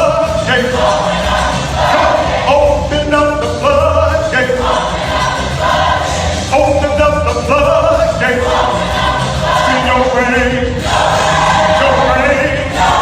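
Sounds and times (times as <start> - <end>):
gospel choir singing: 0.0 - 13.0
musical accompaniment: 0.0 - 13.0.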